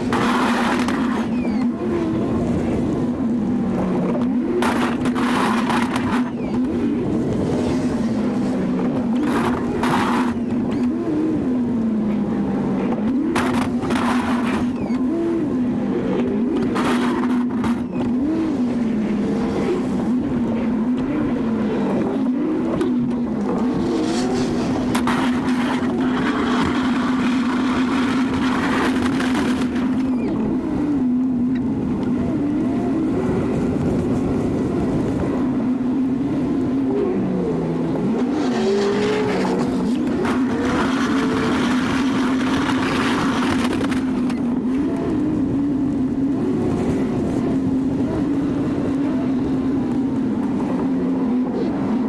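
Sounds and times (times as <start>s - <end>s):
pickup engine running under load: 0.0s - 52.0s.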